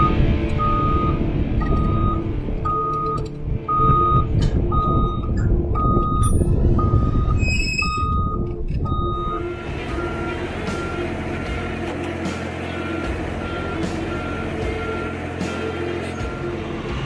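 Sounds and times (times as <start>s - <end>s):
reversing alarm beeps: 0.0s - 11.9s, 12.7s - 16.6s
diesel engine rumble: 0.0s - 17.0s.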